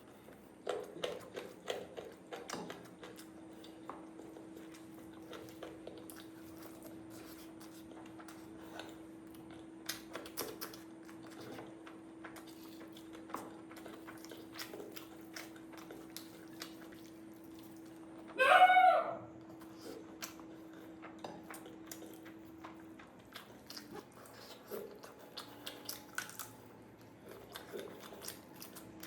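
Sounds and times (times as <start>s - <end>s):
person chewing and smacking: 0.0s - 18.4s, 19.4s - 29.0s
faint hum: 0.0s - 29.0s.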